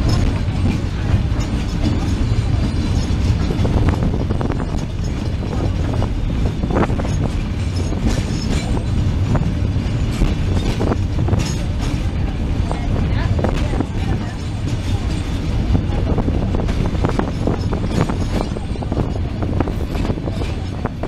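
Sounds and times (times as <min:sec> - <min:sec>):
track clicks and clacks: 0:00.0 - 0:21.0
train wheels rumbling on rails: 0:00.0 - 0:21.0.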